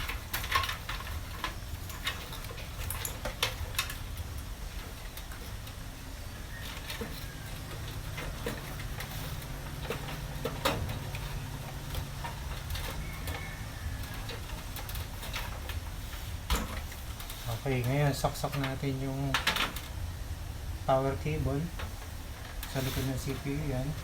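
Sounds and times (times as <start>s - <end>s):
cables and plastic connectors rattling: 0.0s - 24.0s.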